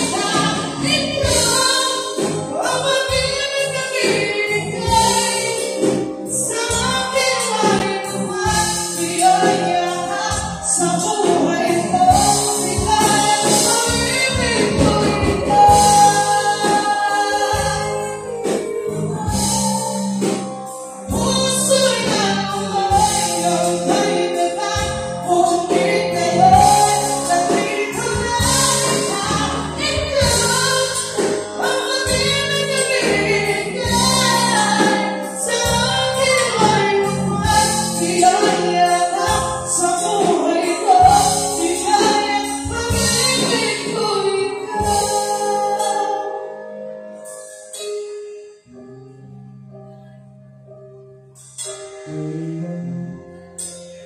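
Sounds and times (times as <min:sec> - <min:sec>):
women singing: 0:00.0 - 0:20.2, 0:21.1 - 0:46.3
drum kit beat: 0:00.0 - 0:44.1.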